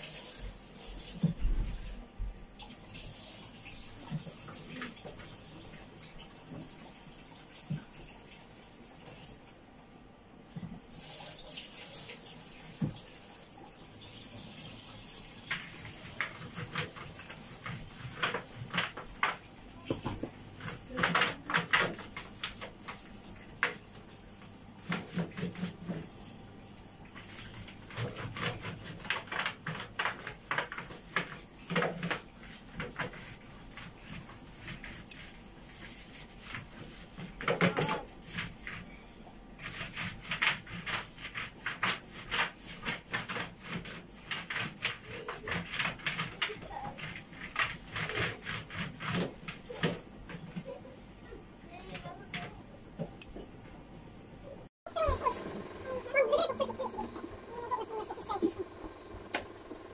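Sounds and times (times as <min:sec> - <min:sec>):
sponge wiping a tiled wall: 0:00.0 - 0:09.5, 0:10.5 - 0:13.5, 0:14.2 - 0:26.2, 0:27.2 - 0:52.5, 0:54.9 - 0:59.9.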